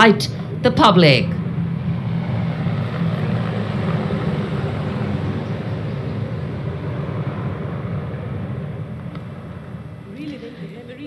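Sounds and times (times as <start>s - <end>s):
helicopter rotor and engine rumble: 0.0s - 11.0s.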